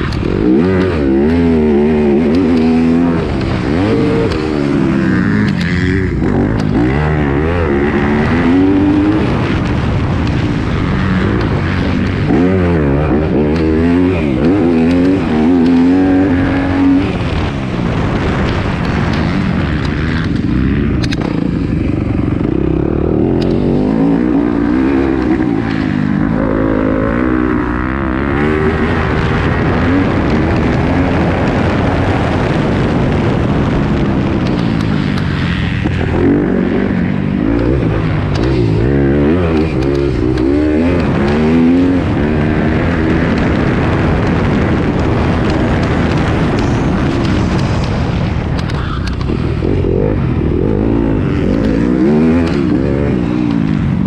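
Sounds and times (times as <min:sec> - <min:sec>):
motocross bike engine revving: 0:00.0 - 0:54.0
wind and dirt noise: 0:00.0 - 0:54.0.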